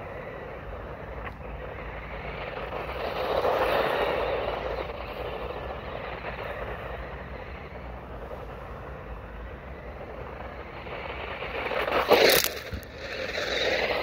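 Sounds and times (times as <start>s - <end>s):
vehicle sliding on gravel: 0.0s - 14.0s.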